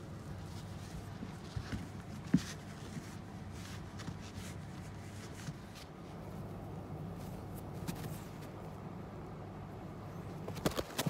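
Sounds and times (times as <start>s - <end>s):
rustling and scratching on a mat: 0.0s - 8.8s, 10.1s - 11.0s.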